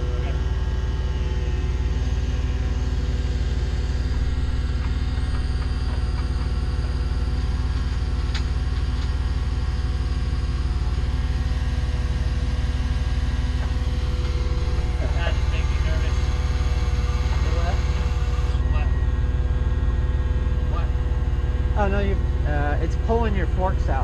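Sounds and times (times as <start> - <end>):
forklift engine rumbling: 0.0 - 24.0.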